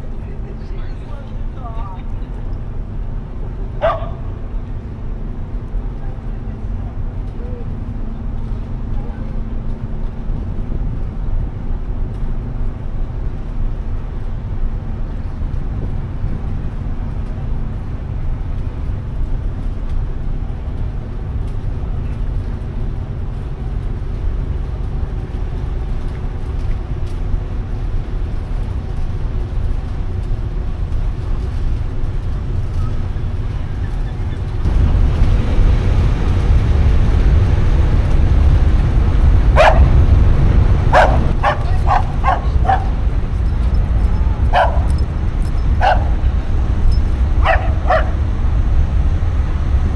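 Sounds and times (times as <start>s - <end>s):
ship engine rumble: 0.0s - 49.9s.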